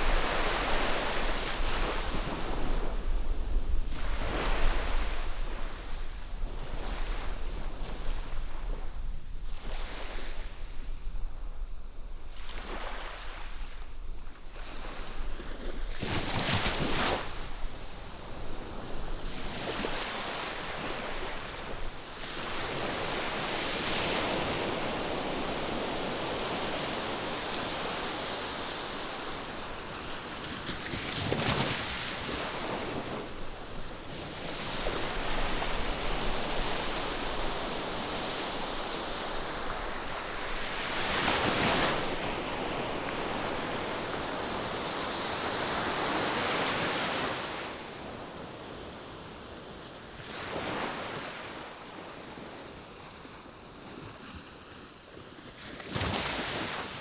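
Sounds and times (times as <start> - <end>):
ocean waves breaking on beach: 0.0 - 10.9, 12.3 - 57.0.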